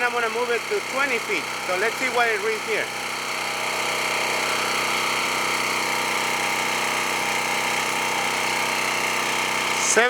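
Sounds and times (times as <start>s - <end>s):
portable generator running: 0.0s - 10.0s.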